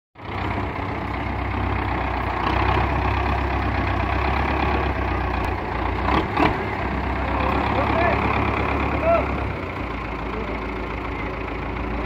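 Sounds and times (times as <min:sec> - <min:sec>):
tractor diesel engine running: 0:00.2 - 0:12.0.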